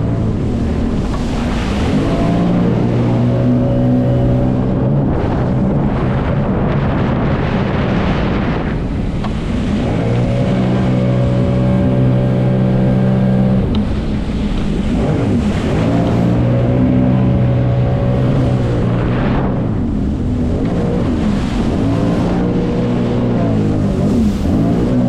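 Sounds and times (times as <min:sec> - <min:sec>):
jet ski engine running: 0:00.0 - 0:25.0.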